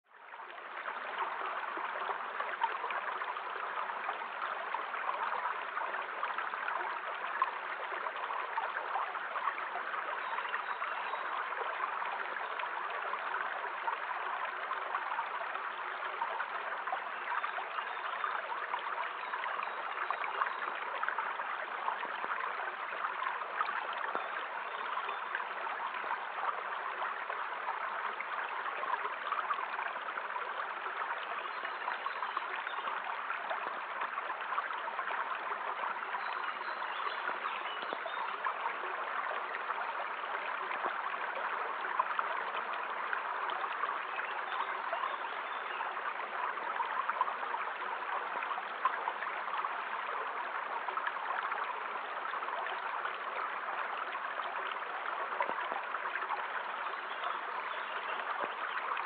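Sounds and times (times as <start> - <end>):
stream flowing: 0.1 - 59.0.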